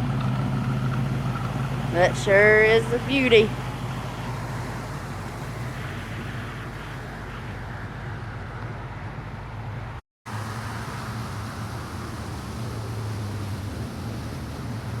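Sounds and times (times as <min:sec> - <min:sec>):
car engine running: 0:00.0 - 0:09.6, 0:10.3 - 0:15.0
street noise: 0:00.0 - 0:15.0.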